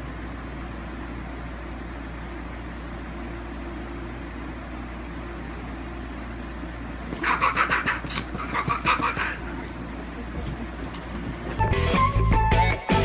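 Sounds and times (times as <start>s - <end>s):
box fan whirring: 0.0s - 13.0s.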